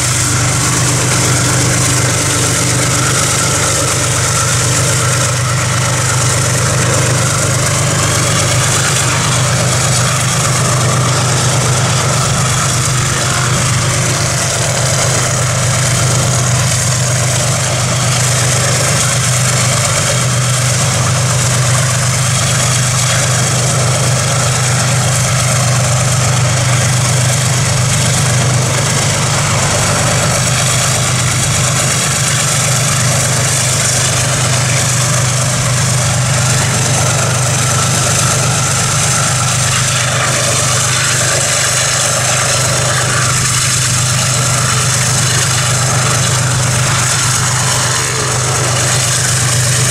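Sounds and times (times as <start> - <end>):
motorcycle engine drone: 0.0 - 49.9.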